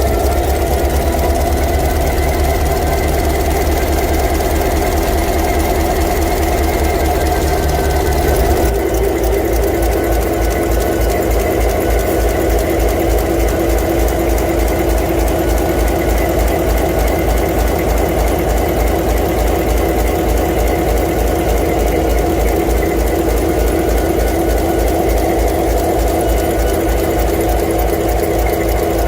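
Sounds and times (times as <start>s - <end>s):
diesel locomotive engine running: 0.0s - 29.0s.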